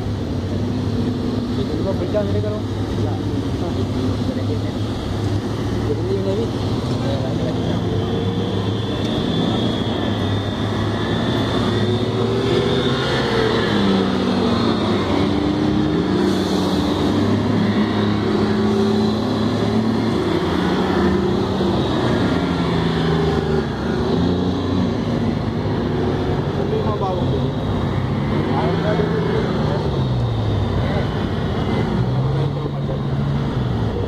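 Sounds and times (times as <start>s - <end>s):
heavy vehicle engine: 0.0s - 34.0s.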